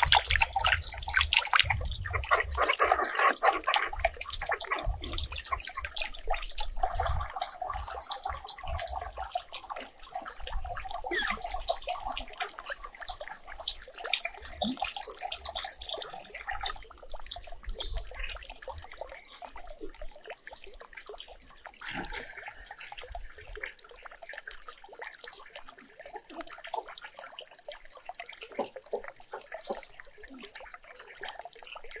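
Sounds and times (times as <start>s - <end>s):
water splashing and dripping: 0.0s - 32.0s.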